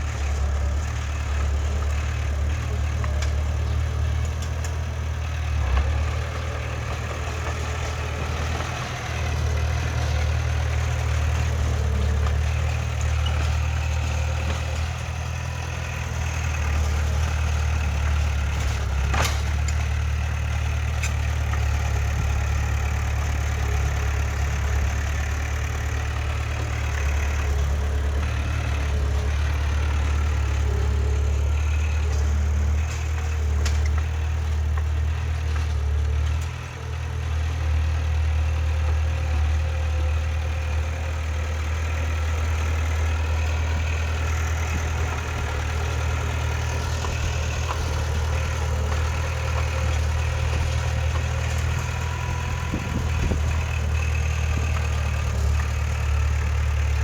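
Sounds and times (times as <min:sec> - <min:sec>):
diesel machine engine rumbling: 0:00.0 - 0:57.0.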